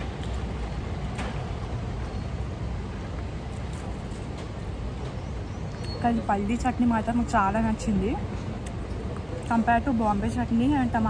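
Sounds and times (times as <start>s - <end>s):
street rumble: 0.0s - 11.0s.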